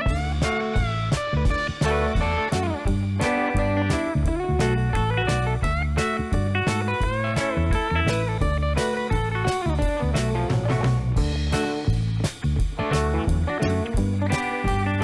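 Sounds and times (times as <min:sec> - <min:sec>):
bass: 0:00.0 - 0:15.0
guitar lead bending notes: 0:00.0 - 0:15.0
steady drum beat: 0:00.0 - 0:15.0.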